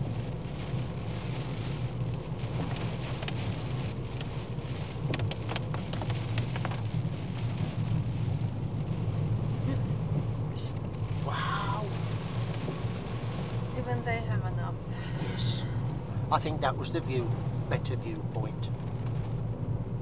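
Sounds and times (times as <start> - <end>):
rain spattering on a car: 0.0 - 20.0
road and engine rumble: 0.0 - 20.0.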